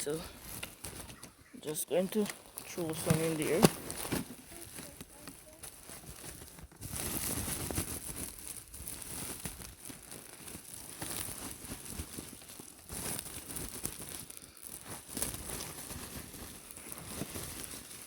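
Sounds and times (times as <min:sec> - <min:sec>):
bag rustling and crinkling: 0:00.0 - 0:18.0.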